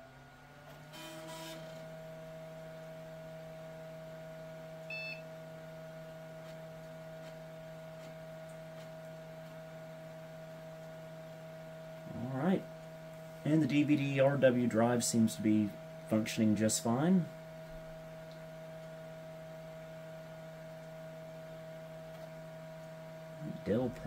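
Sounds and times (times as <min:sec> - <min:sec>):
computer hum: 0:00.0 - 0:24.0
disc drive whine: 0:00.0 - 0:24.0.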